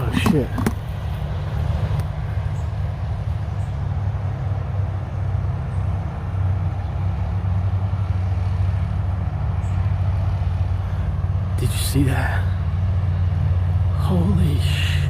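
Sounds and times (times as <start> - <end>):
vehicle engine rumbling past: 0.0 - 15.0.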